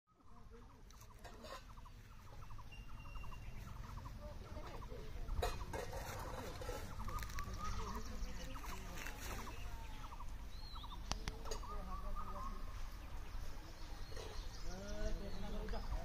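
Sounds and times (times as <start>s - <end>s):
birds chirping and trilling: 0.1s - 16.0s.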